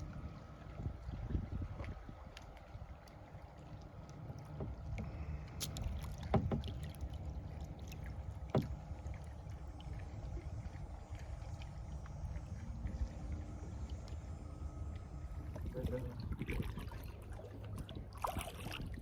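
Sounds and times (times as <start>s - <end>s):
paddle strokes in water: 0.0s - 14.2s, 14.9s - 19.0s
low steady rumble: 0.0s - 19.0s.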